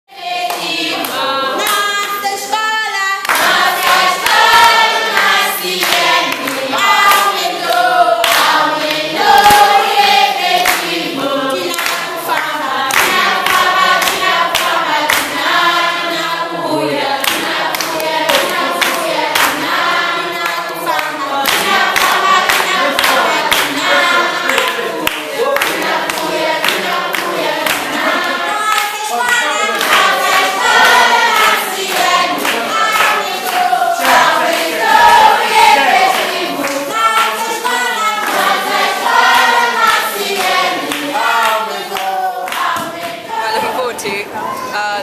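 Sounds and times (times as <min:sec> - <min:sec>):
choir singing: 0:00.1 - 0:45.0
handclaps: 0:00.4 - 0:02.3, 0:03.2 - 0:11.0, 0:11.6 - 0:15.5, 0:17.2 - 0:43.2.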